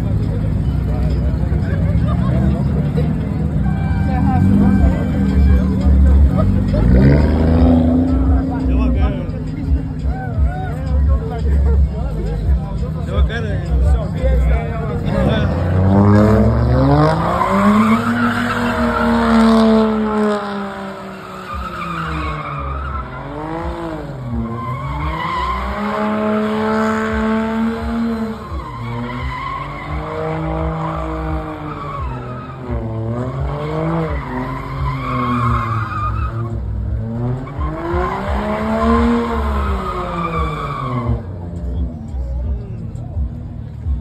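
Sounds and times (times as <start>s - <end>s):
car engine revving: 0.0s - 44.0s
tyres squealing and skidding: 0.0s - 44.0s.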